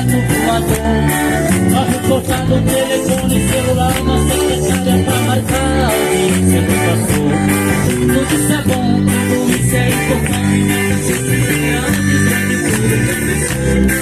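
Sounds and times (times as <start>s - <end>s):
band playing: 0.0s - 14.0s
guitar: 0.0s - 14.0s.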